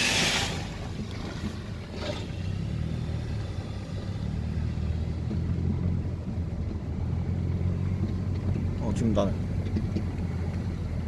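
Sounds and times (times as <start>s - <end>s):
tyres rumbling on rough road: 0.0s - 11.0s.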